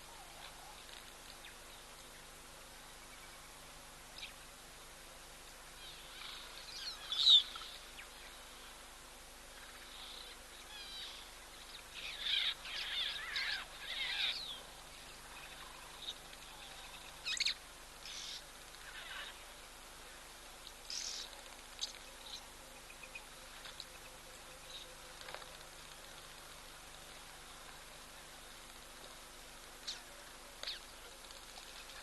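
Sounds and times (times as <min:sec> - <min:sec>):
birds chirping and twittering: 0:00.0 - 0:04.6, 0:05.7 - 0:08.8, 0:09.5 - 0:32.0
faint background hiss: 0:00.0 - 0:32.0.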